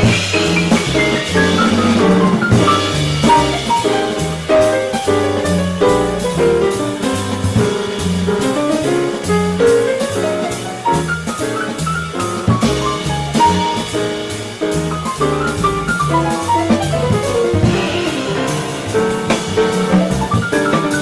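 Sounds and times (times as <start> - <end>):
piano single notes: 0.0 - 21.0
upright bass walking: 0.0 - 21.0.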